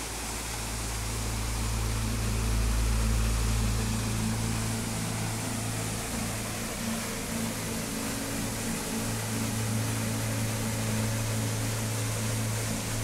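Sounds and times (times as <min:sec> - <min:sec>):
low rumble: 0:00.0 - 0:13.0
waterfall rushing: 0:00.0 - 0:13.0.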